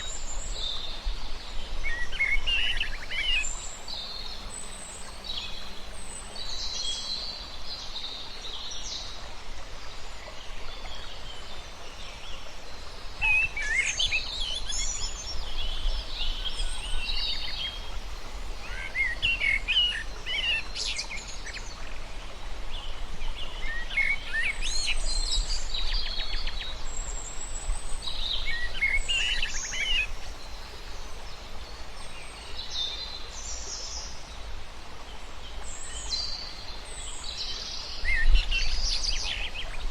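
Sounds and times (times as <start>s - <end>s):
birds singing and twittering: 0.0s - 9.2s, 9.8s - 22.0s, 22.8s - 34.2s, 35.5s - 39.9s
background hiss: 0.0s - 39.9s.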